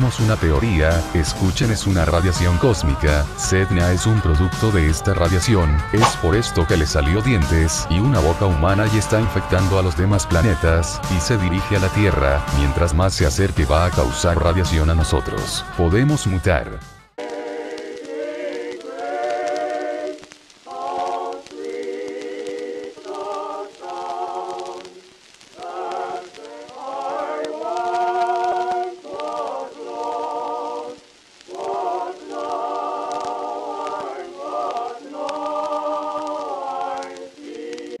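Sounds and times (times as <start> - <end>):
choir singing held chords: 1.5 - 13.0, 17.2 - 38.0.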